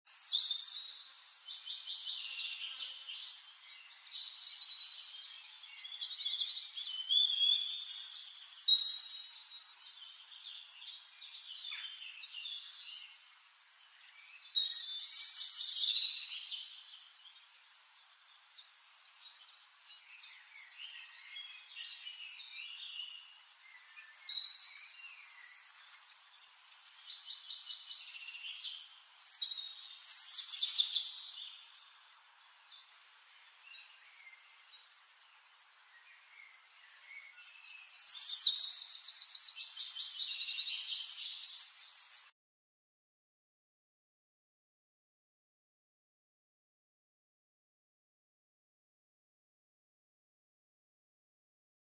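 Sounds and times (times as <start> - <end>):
quiet bird chirping: 0.1 - 42.3
songbirds singing: 0.1 - 42.3.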